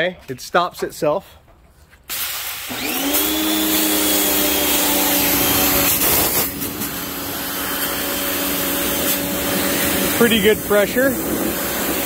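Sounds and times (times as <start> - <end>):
high-pressure water jet hiss: 2.1 - 12.0
pressure washer motor hum: 2.1 - 12.0.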